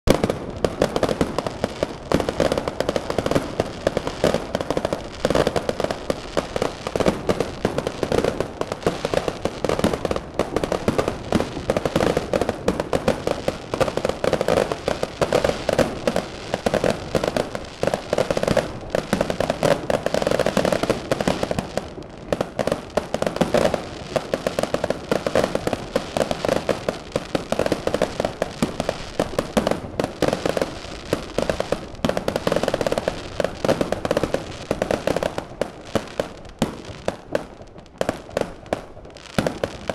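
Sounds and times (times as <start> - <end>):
fireworks bangs and crackles: 0.1 - 39.9.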